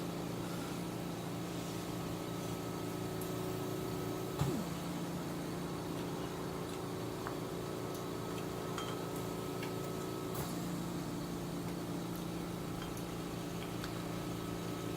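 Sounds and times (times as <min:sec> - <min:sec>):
low electrical hum: 0:00.0 - 0:14.9.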